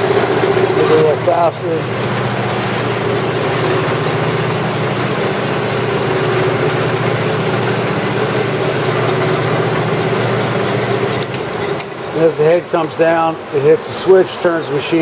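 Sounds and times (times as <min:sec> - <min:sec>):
band saw humming: 0:00.0 - 0:13.5.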